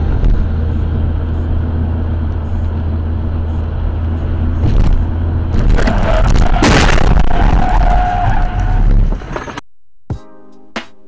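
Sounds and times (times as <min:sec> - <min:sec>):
car engine drone: 0:00.0 - 0:09.6
road noise: 0:00.0 - 0:09.6.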